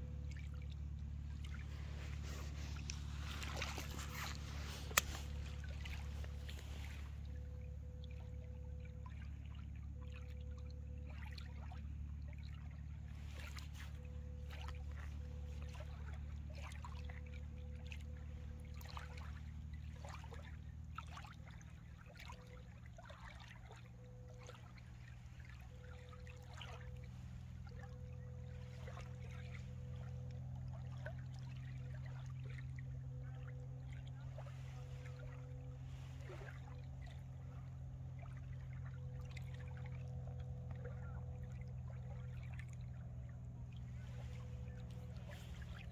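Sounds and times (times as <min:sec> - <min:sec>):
small waves lapping: 0:00.0 - 0:45.9
steady low hum: 0:00.0 - 0:45.9.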